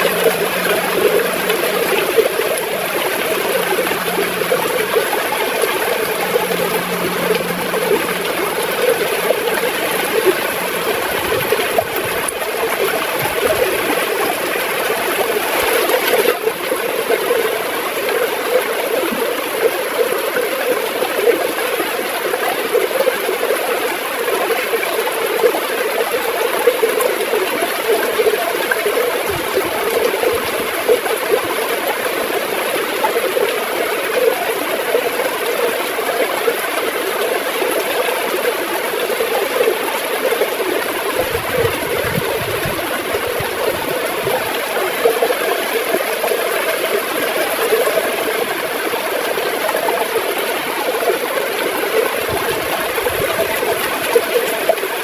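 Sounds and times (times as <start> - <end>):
river water gurgling and flowing: 0.0 - 55.0.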